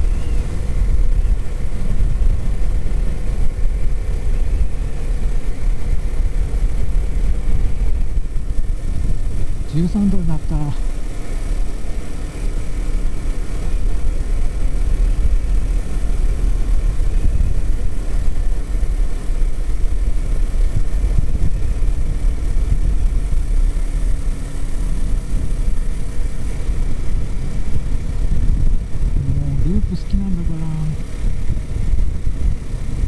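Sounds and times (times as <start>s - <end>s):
motorcycle engine cruising: 0.0s - 33.0s
wind rumble on microphone: 0.0s - 33.0s.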